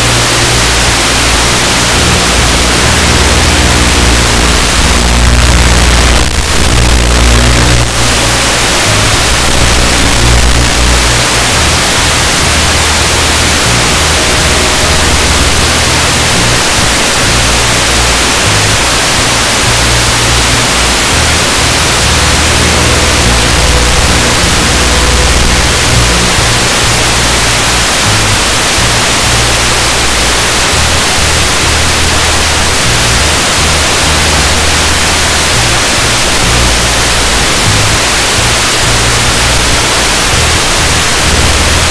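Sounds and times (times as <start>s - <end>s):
loud steady hiss: 0.0s - 41.9s
music with deep bass line: 0.0s - 41.9s.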